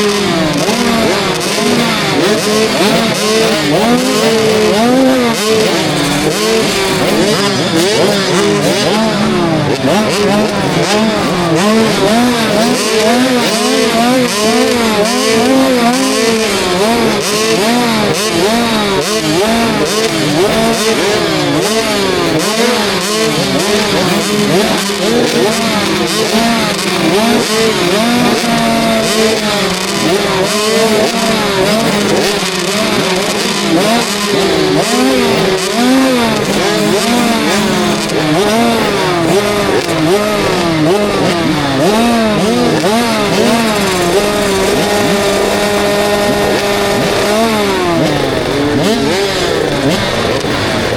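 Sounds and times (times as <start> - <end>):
track noise: 0.0 - 50.9
two-stroke motocross engine revving: 0.0 - 50.9.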